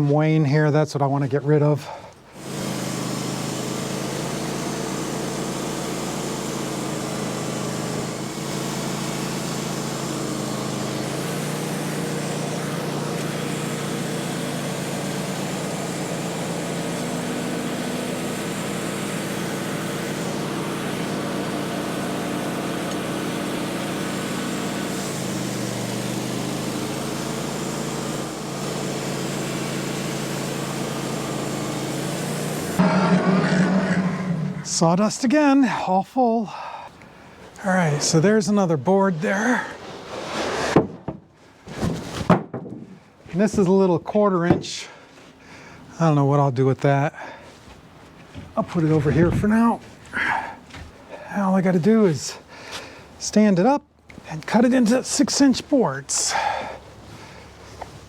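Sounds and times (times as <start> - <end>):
portable sawmill cutting log: 1.5 - 58.0.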